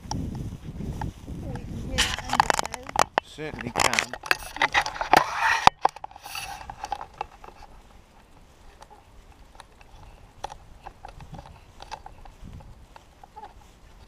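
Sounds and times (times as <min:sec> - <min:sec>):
rustling and knocks: 0:01.0 - 0:14.0.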